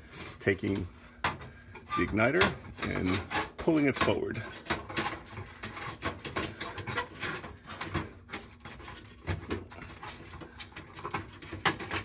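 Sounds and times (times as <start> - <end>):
metal clicks and scrapes: 1.8 - 12.0.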